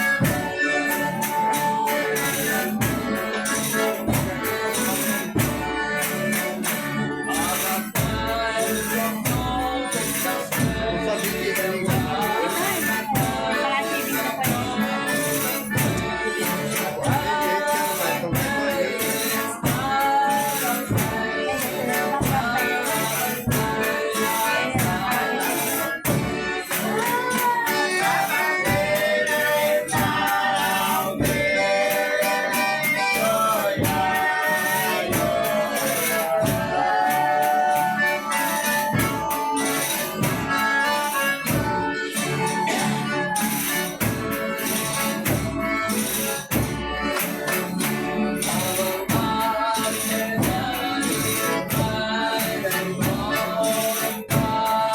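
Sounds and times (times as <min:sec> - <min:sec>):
instruments playing: 0:00.0 - 0:54.9
tambourine and percussion beat: 0:00.0 - 0:54.9
voices singing: 0:00.0 - 0:54.9.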